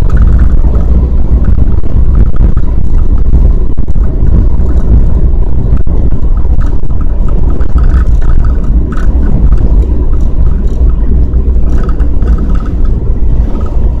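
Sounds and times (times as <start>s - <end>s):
vehicle running noise: 0.0s - 14.0s
wind rumbling on microphone: 0.0s - 14.0s.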